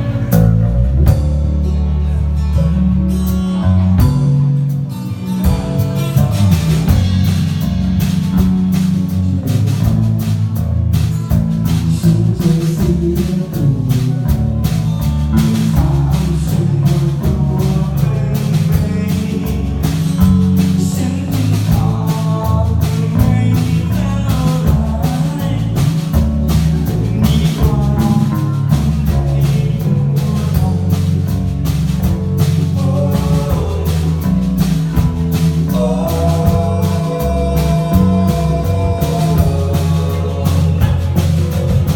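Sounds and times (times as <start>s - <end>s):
bass: 0.0s - 41.9s
drums: 0.0s - 41.9s
guitar: 0.0s - 41.9s
live band music: 0.0s - 41.9s.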